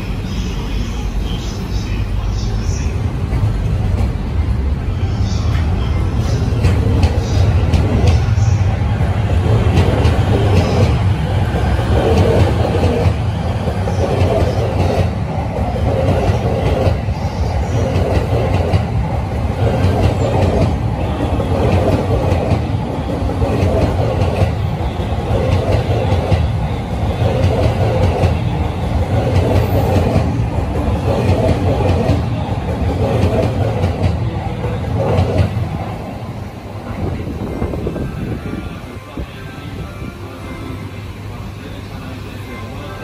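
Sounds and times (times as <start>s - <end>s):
electric train rumbling past: 0.0s - 43.0s.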